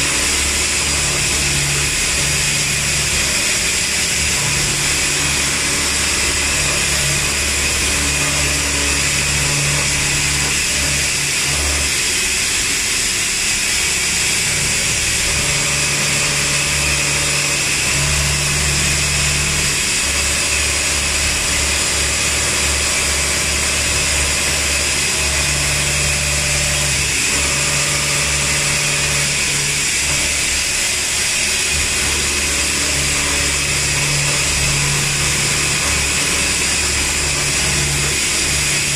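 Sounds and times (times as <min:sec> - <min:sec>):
spindle whine and cutting noise: 0:00.0 - 0:38.9.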